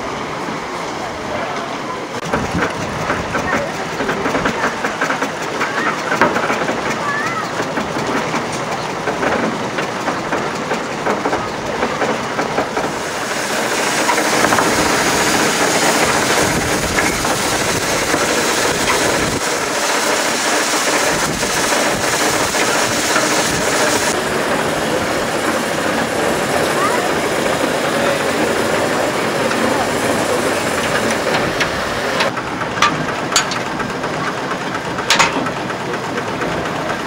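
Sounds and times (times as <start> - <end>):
steam engine running: 0.0 - 37.0
steam hissing: 0.0 - 37.0.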